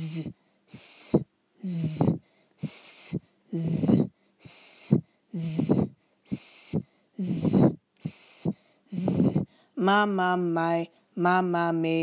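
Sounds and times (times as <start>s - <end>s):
woman vocal warm-up: 0.0s - 10.9s.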